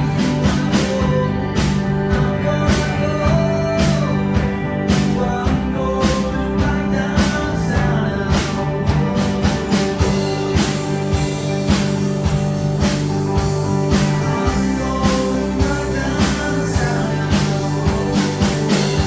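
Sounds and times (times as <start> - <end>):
bass guitar: 0.0 - 19.0
drum kit beat: 0.0 - 19.0
electric guitar: 0.0 - 19.0.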